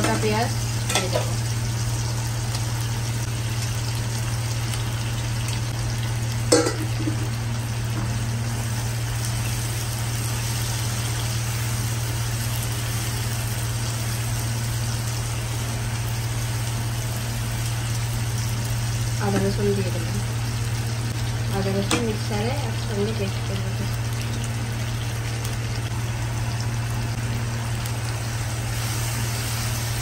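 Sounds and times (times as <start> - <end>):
onion frying in oil: 0.0 - 30.0.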